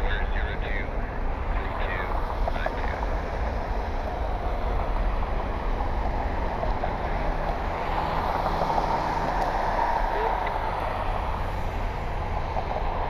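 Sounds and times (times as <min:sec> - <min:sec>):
jet engines with deep rumble: 0:00.0 - 0:13.0.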